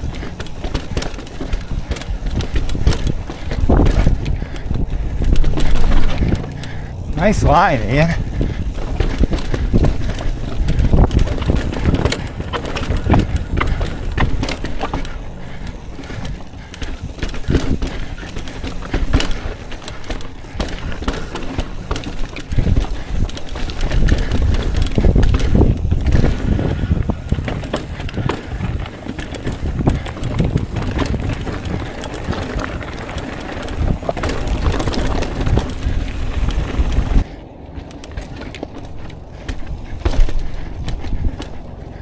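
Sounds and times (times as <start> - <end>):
bike clattering over rocks: 0.0 - 42.0
wind buffeting microphone: 0.0 - 42.0.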